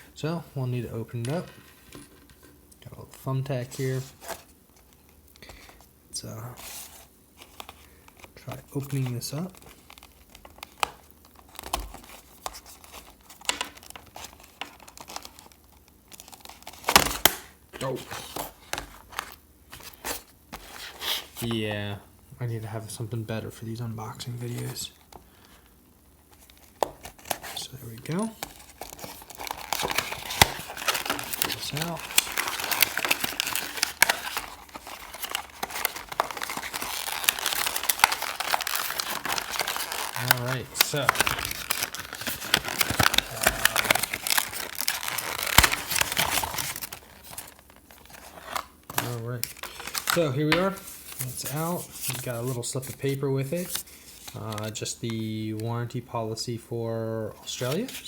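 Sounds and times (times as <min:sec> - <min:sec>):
packaging crinkling and tearing: 0:06.6 - 0:21.6, 0:24.5 - 0:55.9, 0:57.5 - 0:58.0.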